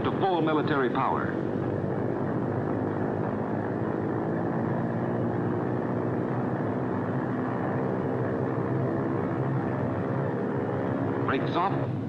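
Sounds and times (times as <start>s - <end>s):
heavy propeller engines droning: 0.0s - 12.0s.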